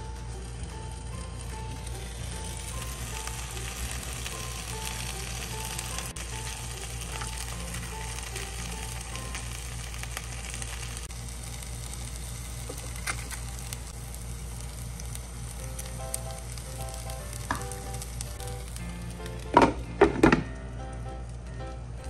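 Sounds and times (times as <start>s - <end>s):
frying sizzle in a pan: 0.1s - 22.0s.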